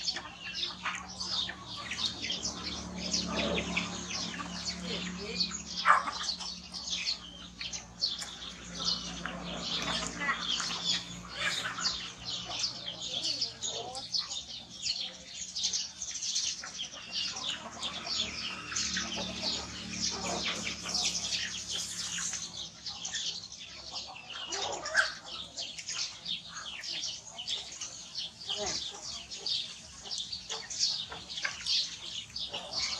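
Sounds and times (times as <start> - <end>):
small birds chirping rapidly: 0.0 - 32.9.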